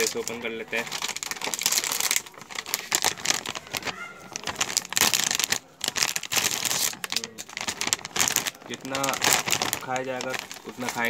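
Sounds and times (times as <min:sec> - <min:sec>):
foil chip packet crinkling: 0:00.0 - 0:11.0.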